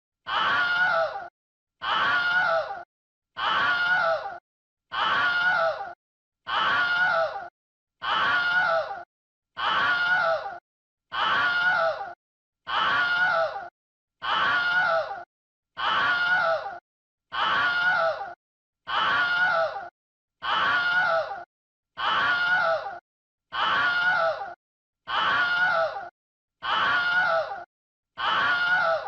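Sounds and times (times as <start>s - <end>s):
person screaming: 0.3s - 2.8s, 3.4s - 9.0s, 9.6s - 29.0s.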